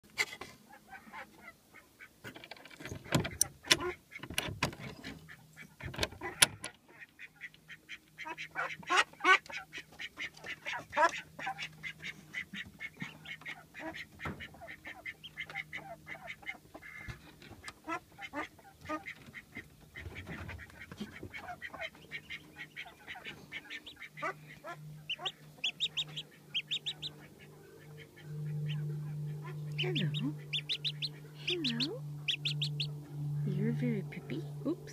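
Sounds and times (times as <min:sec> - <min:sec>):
ducks calling: 0:00.2 - 0:02.2, 0:03.0 - 0:34.7
duckling peeping: 0:00.7 - 0:02.2, 0:04.9 - 0:34.3.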